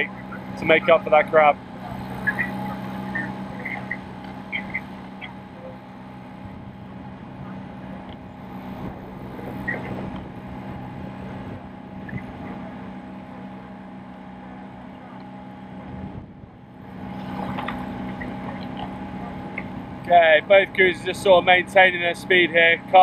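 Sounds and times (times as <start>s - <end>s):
motor launch engine drone: 0.0s - 22.9s.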